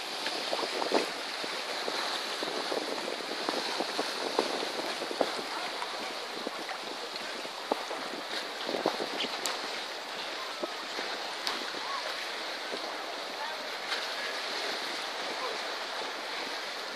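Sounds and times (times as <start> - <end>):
sea water washing ashore: 0.0 - 16.9.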